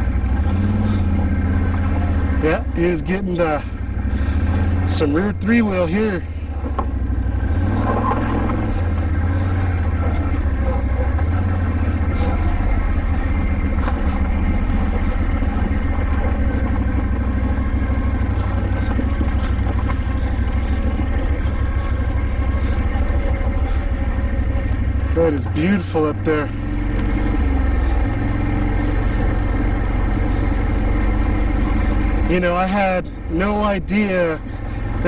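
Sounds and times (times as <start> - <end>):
quad engine running on rocky trail: 0.0 - 35.0.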